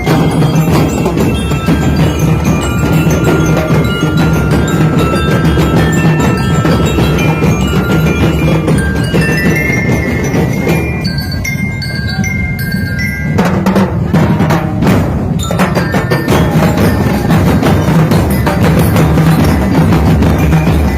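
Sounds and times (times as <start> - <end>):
loud drum beat: 0.0 - 11.4, 12.8 - 20.9
bell-like melody notes: 0.0 - 14.1, 15.3 - 20.9.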